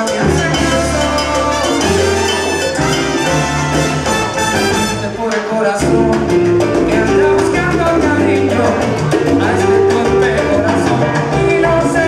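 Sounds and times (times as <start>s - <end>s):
salsa band playing: 0.0s - 12.0s.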